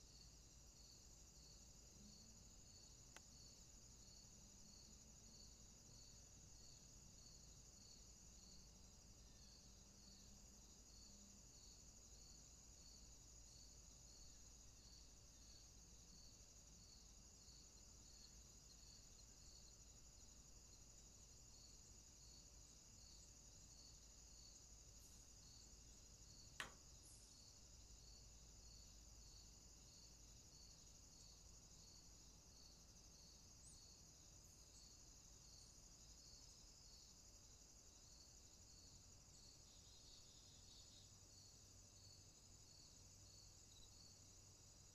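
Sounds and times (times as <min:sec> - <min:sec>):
steady high hiss: 0:00.0 - 0:44.9.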